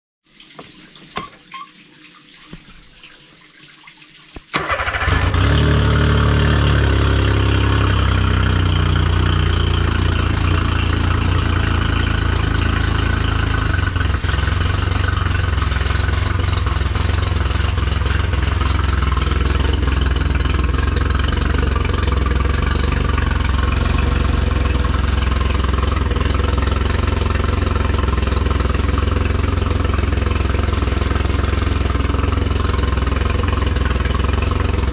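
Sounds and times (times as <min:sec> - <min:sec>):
outboard motor running: 0:04.5 - 0:34.9.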